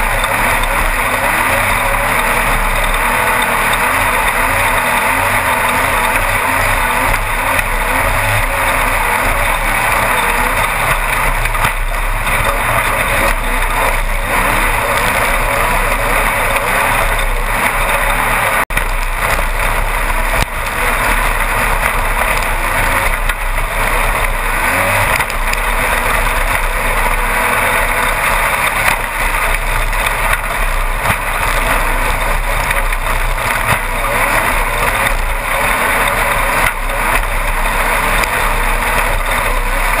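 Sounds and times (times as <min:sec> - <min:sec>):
racing buggy engine running loud: 0:00.0 - 0:40.0.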